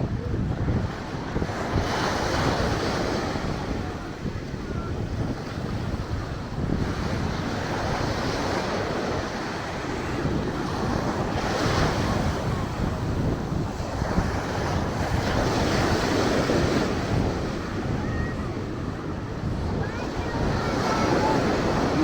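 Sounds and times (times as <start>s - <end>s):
wind rumbling on microphone: 0.0s - 22.0s
ocean surf breaking: 0.5s - 22.0s.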